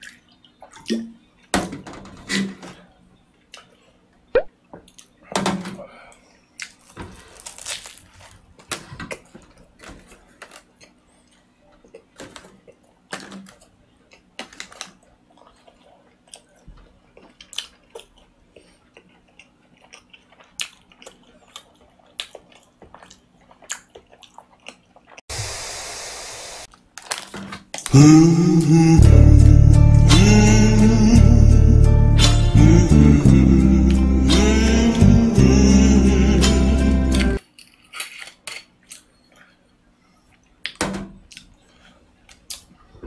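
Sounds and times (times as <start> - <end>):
man chewing and mouth sounds: 5.9 - 25.3, 27.8 - 43.0.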